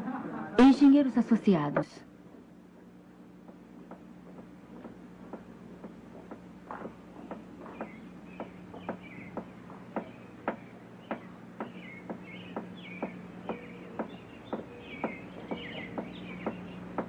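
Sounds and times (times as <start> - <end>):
birds chirping: 0.6 - 17.0.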